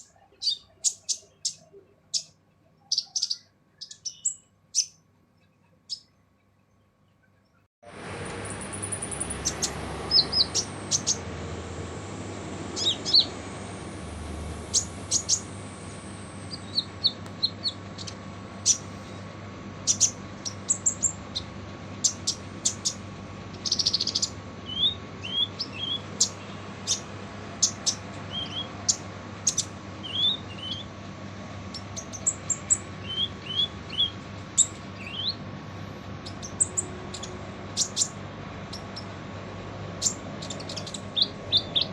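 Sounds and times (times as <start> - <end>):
sunbird harsh calls: 0.0 - 5.0, 8.4 - 39.2, 40.0 - 41.9
faint hum: 0.0 - 41.9.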